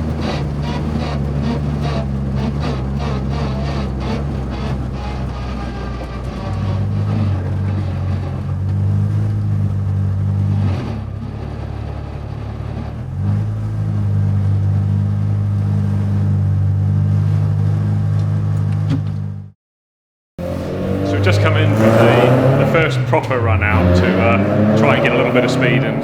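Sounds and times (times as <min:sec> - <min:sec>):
rally car engine running hard: 0:00.0 - 0:19.5, 0:20.4 - 0:26.0.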